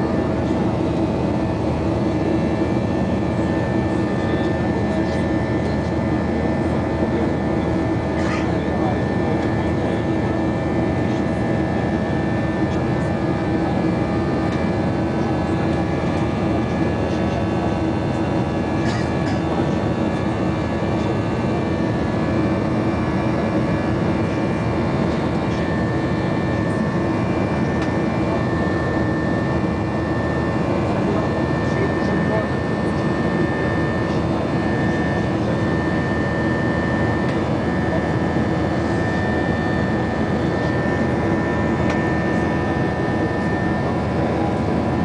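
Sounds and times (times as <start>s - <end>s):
jet engines in cabin: 0.0s - 45.0s.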